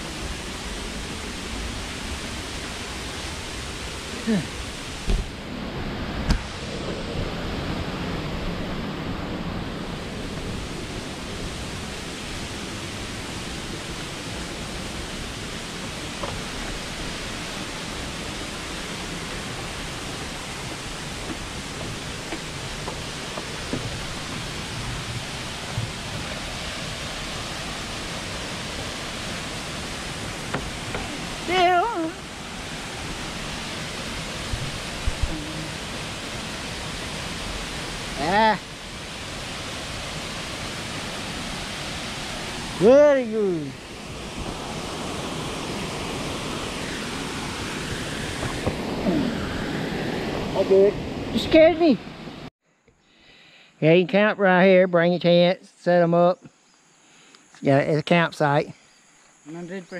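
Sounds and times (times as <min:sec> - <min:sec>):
falling water rushing: 0:00.0 - 0:52.5.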